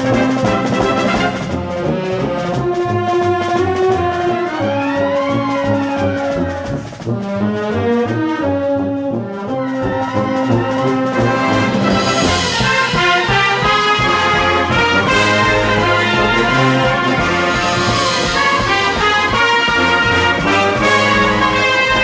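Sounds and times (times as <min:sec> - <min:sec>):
military brass band playing: 0:00.0 - 0:22.0.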